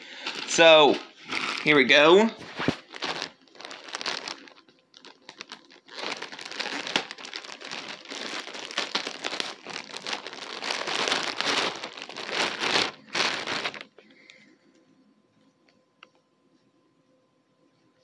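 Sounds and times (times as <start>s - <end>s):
plastic bag crinkling: 0.0s - 14.5s.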